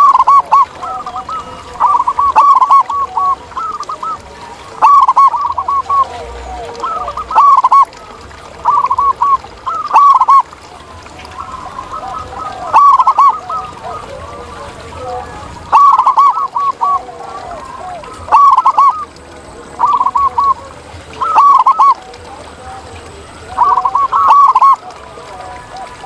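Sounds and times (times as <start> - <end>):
doves cooing: 0.0 - 26.0
faint dove calls: 0.0 - 26.0.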